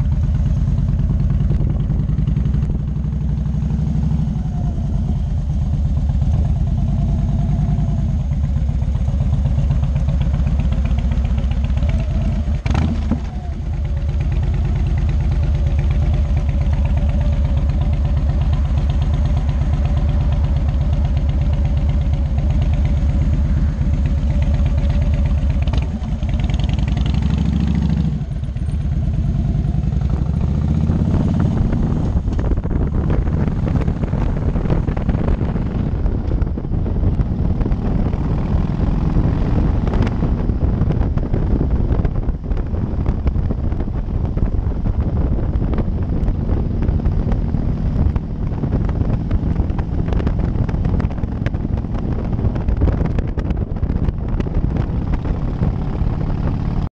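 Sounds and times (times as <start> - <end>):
motorcycle engine running: 0.0 - 56.9
wind rushing over microphone: 0.0 - 56.9.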